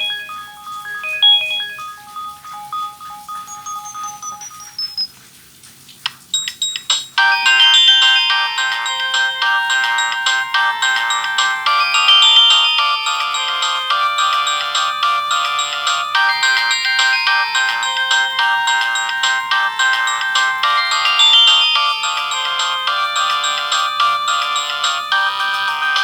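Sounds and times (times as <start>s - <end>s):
polyphonic phone ringtone: 0.0s - 5.2s, 6.3s - 26.0s.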